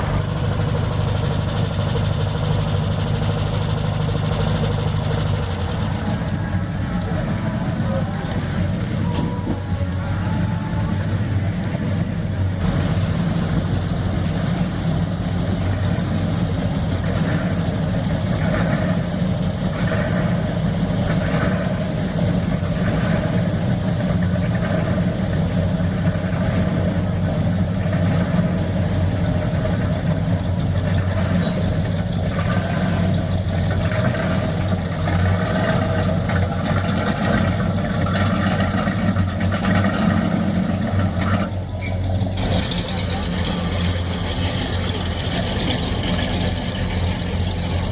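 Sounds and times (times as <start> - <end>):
car engines idling: 0.0 - 47.9.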